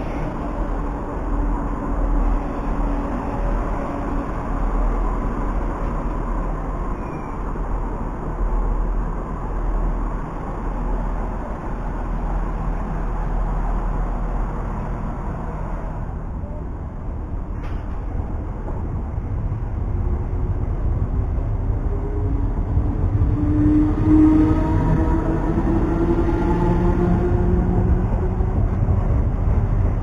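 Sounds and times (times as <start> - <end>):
train wheels running on rail: 0.0 - 30.0.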